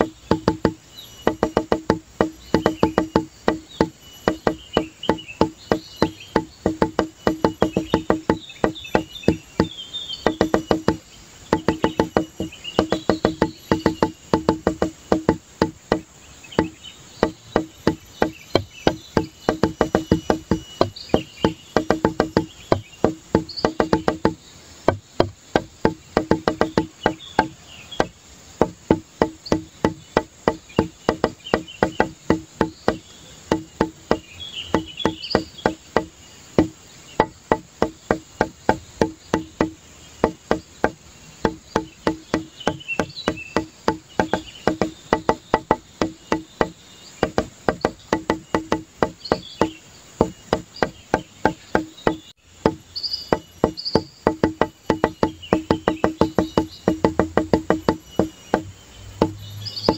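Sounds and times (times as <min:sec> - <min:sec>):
clicking percussion music: 0:00.0 - 0:59.9.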